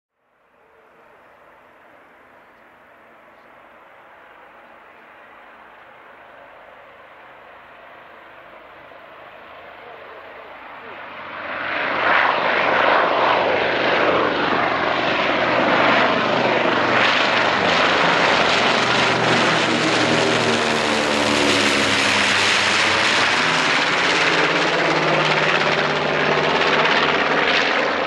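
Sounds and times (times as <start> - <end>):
propeller plane passing overhead: 0.3 - 28.0.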